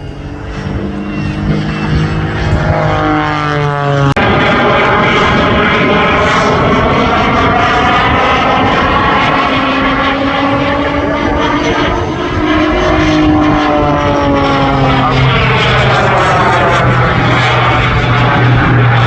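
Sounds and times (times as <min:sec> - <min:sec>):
propeller aircraft engine drone: 0:00.0 - 0:19.0.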